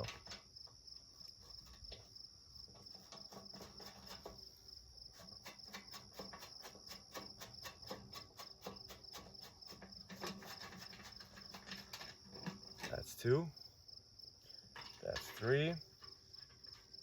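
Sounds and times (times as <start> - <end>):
cricket chirping trill: 0.0 - 17.0.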